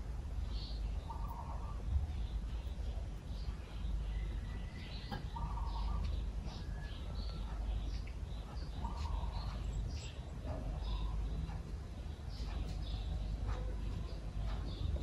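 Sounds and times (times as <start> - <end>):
steady low rumble: 0.0 - 15.0
birds chirping: 0.2 - 15.0.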